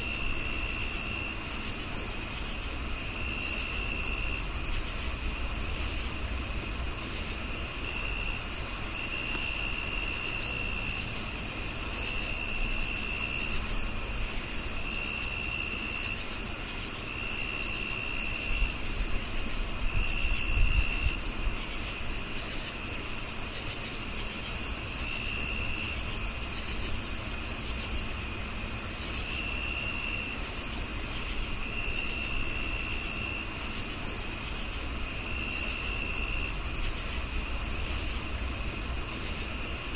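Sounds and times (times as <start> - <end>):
cricket high steady trill: 0.0 - 39.9
cricket lower trill: 0.0 - 39.9.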